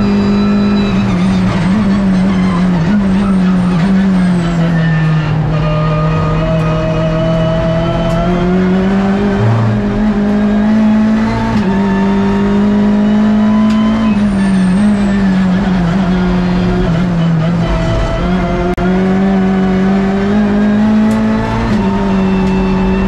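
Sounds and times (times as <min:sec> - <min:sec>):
race car engine at speed: 0:00.0 - 0:23.0.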